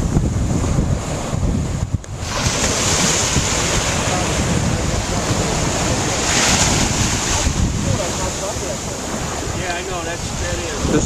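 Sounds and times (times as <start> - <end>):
small surf washing on beach: 0.0 - 11.0
wind buffeting microphone: 0.0 - 11.0.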